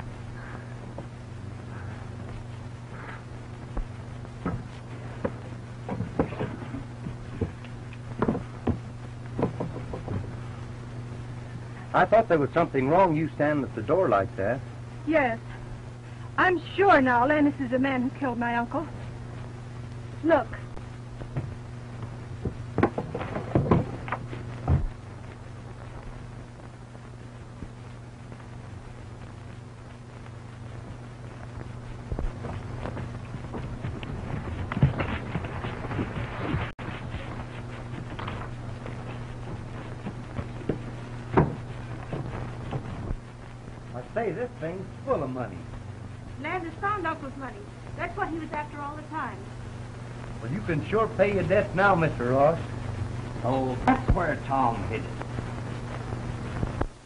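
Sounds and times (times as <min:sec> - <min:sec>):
film soundtrack hum: 0:00.0 - 0:57.0.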